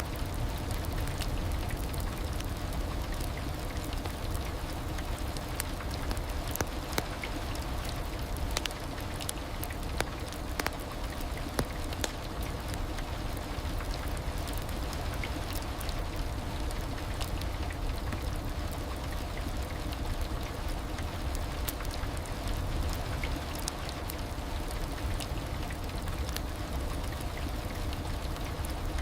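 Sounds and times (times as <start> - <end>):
heavy rain hiss: 0.0 - 29.0
raindrops ticking on surface: 0.0 - 29.0.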